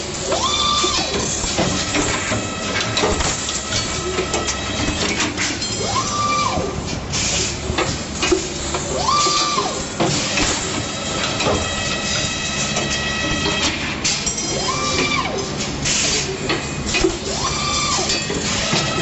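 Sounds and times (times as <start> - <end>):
welding machine clatter and clicks: 0.0 - 6.0, 6.7 - 19.0.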